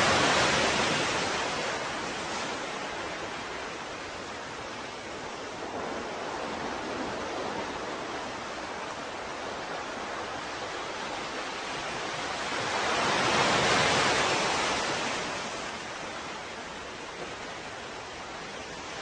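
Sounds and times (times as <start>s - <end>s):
ocean surf washing: 0.0s - 19.0s.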